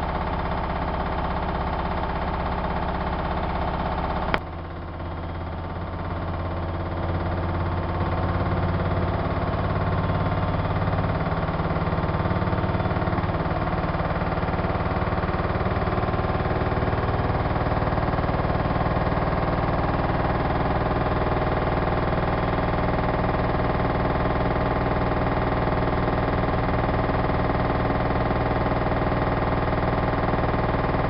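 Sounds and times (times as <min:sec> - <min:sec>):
washing machine spinning: 0:05.0 - 0:31.0.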